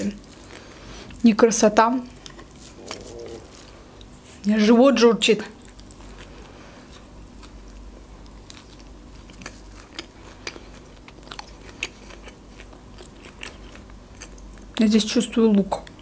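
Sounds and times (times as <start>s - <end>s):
close chewing with light crunches: 0.0s - 16.0s.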